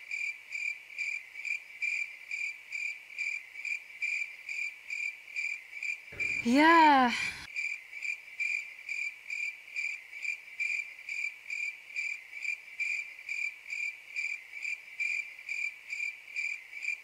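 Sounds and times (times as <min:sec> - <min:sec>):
cricket chirping: 0:00.0 - 0:06.4, 0:07.6 - 0:17.0.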